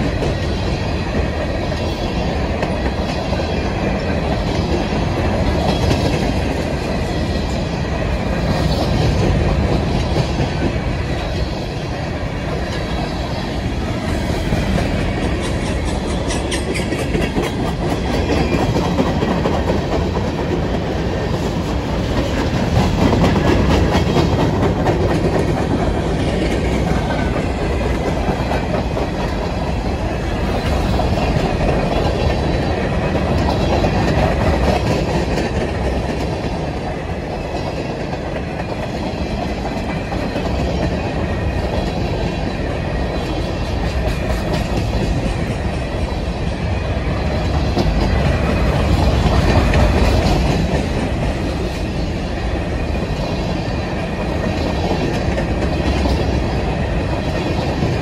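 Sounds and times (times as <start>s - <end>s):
train cars rumbling past: 0.0s - 58.0s
wheels clacking over rail joints: 0.0s - 58.0s.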